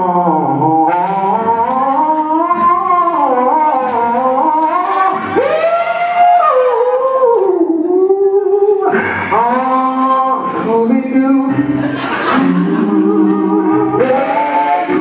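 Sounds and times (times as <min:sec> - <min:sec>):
person singing church song: 0:00.0 - 0:15.0.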